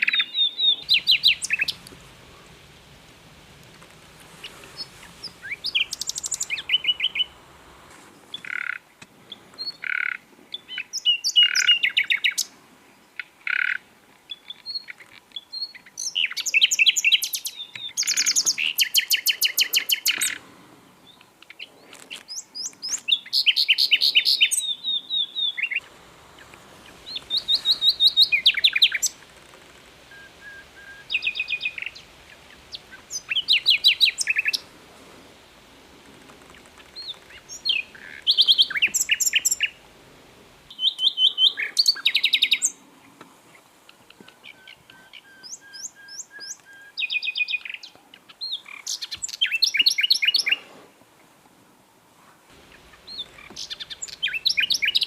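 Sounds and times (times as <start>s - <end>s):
nightingale singing: 0.0s - 42.8s, 43.8s - 50.6s, 52.5s - 55.0s.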